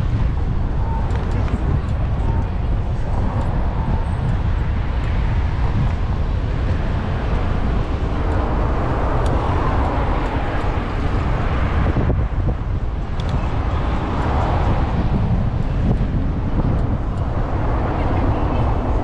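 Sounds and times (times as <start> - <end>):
city street traffic: 0.0 - 19.0
wind on camera microphone: 0.0 - 19.0
car passing: 3.0 - 19.0.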